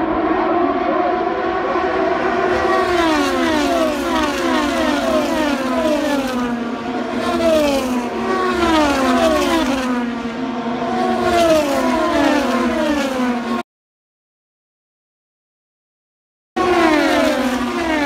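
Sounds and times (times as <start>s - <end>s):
race cars passing at full speed: 0.0s - 13.6s, 16.6s - 18.0s.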